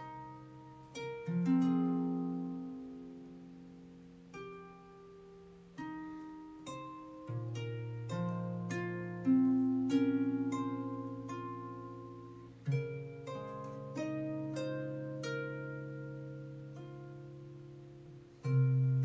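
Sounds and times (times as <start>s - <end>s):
solo harp playing: 0.0s - 19.0s.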